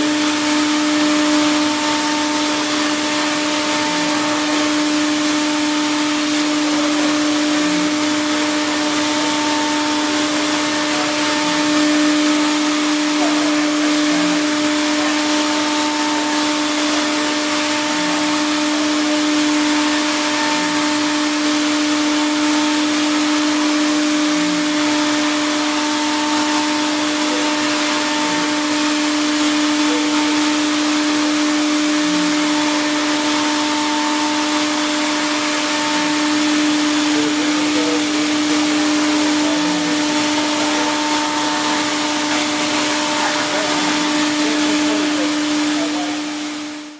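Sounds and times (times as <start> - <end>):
hiss of cutting and coolant spray: 0.0 - 46.9
milling spindle whine: 0.0 - 46.9.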